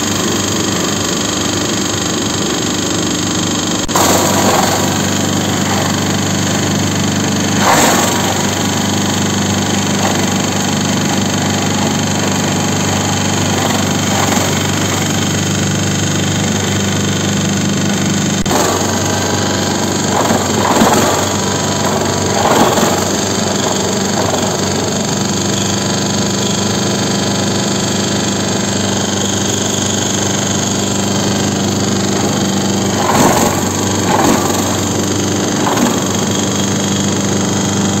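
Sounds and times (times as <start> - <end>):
vegetable shredder grinding: 0.0 - 38.0.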